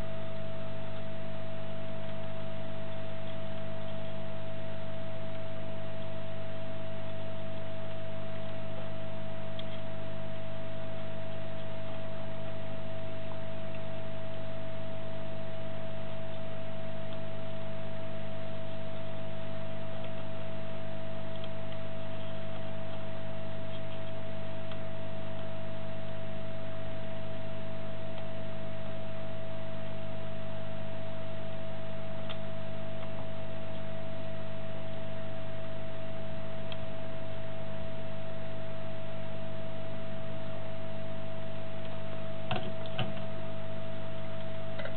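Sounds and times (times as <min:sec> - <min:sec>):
constant whine: 0:00.0 - 0:44.9
electrical hum: 0:00.0 - 0:44.9.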